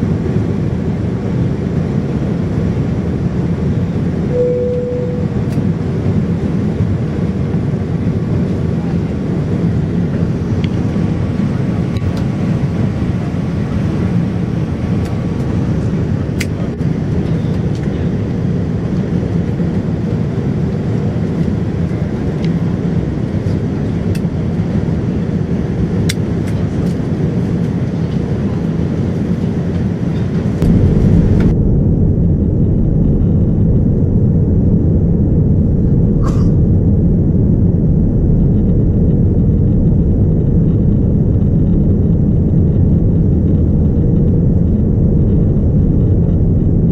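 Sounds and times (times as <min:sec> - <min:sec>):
airliner cabin noise: 0:00.0 - 0:46.9.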